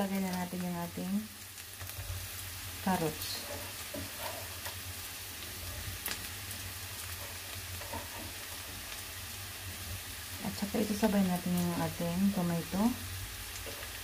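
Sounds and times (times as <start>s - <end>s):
oil sizzling in a wok: 0.0s - 14.0s.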